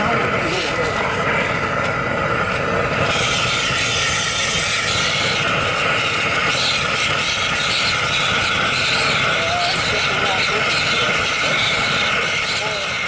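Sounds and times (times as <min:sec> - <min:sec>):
blowtorch hissing: 0:00.0 - 0:13.0.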